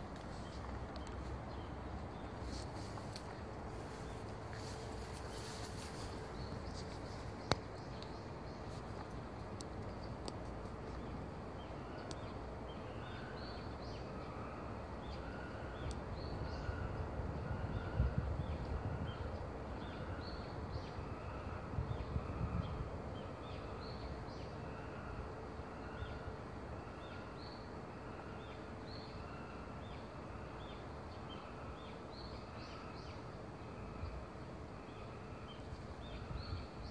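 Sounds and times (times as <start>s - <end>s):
low outdoor hum: 0.0s - 36.9s.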